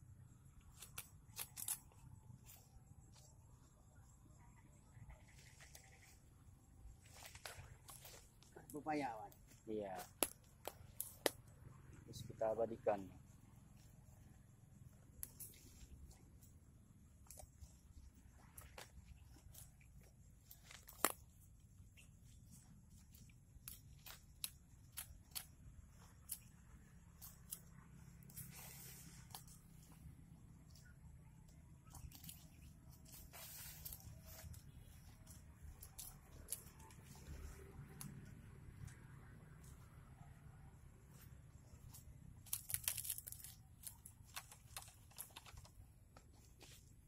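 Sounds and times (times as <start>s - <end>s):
dry twigs clicking and snapping: 0.6s - 3.3s, 7.0s - 12.0s, 15.1s - 16.5s, 17.2s - 39.9s, 41.1s - 47.0s
rustle of stems: 4.9s - 40.0s, 40.7s - 47.0s.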